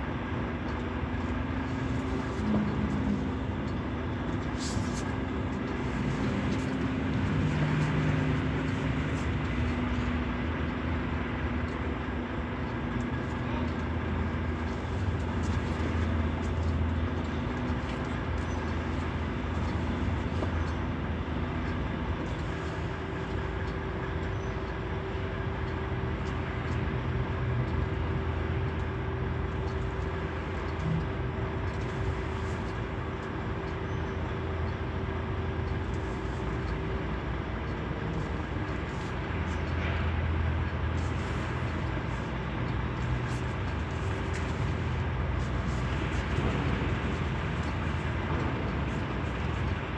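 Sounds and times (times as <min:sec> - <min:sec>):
higher steady hum: 0:00.0 - 0:24.0, 0:27.8 - 0:49.9
large engine low drone: 0:00.0 - 0:49.9.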